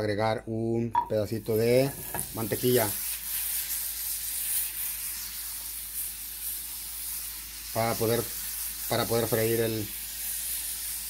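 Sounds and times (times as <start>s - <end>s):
butter sizzling in a frying pan: 1.2s - 11.0s.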